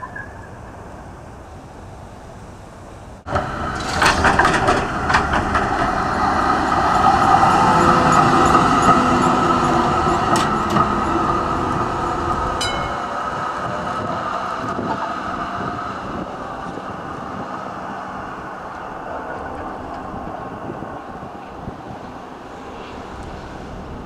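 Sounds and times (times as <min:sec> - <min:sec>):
electric tram motor whine: 0:01.3 - 0:24.0.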